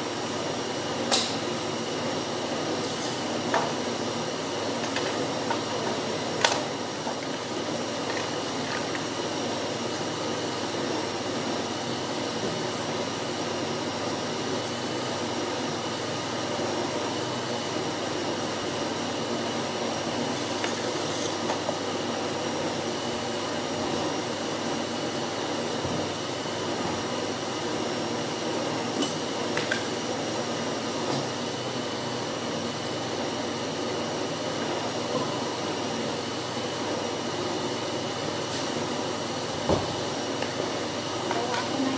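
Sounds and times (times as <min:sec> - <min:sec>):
fan humming: 0:00.0 - 0:41.9.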